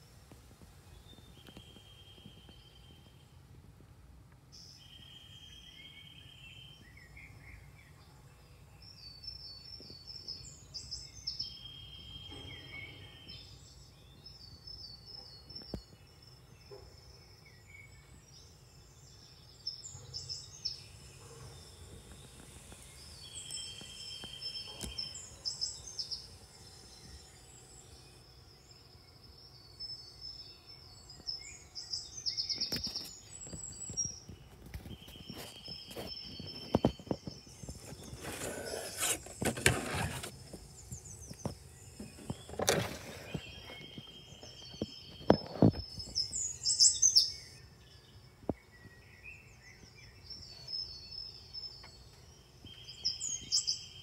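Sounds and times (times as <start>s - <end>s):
birds chirping and singing: 0.8s - 3.4s, 4.6s - 54.0s.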